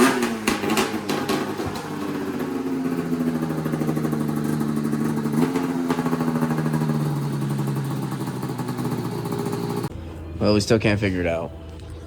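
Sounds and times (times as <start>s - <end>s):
snowmobile engine running: 0.0s - 9.9s.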